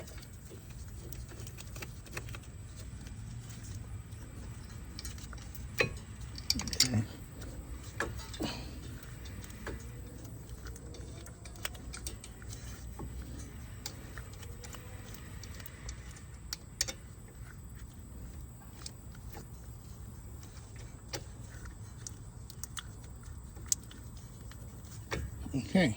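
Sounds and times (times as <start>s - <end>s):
low steady hum: 0.0s - 25.9s
small metal parts clicking: 0.0s - 25.9s.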